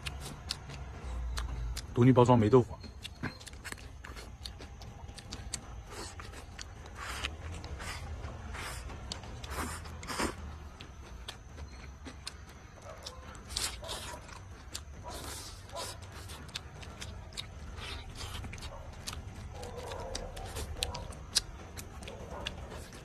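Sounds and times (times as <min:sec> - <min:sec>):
man chewing food: 0:00.0 - 0:02.0, 0:02.7 - 0:23.0.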